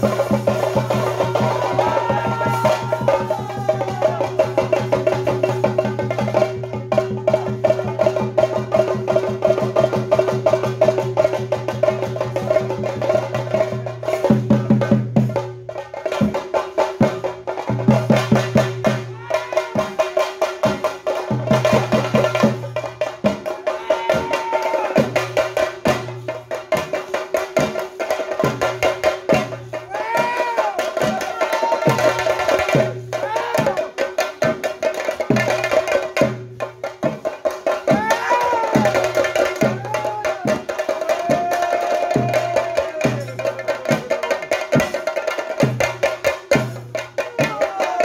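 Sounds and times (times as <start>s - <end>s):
fast drumming with sticks: 0.0s - 48.0s.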